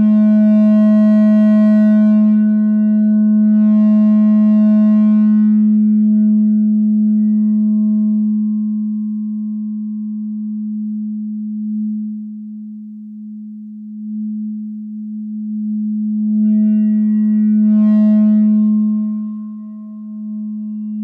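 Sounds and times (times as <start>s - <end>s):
electronic feedback drone: 0.0s - 21.0s.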